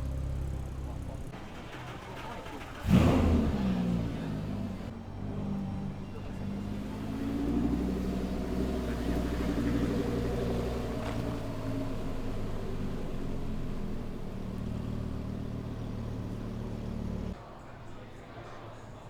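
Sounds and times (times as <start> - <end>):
car engine rumbling at low revs: 0.0 - 17.4.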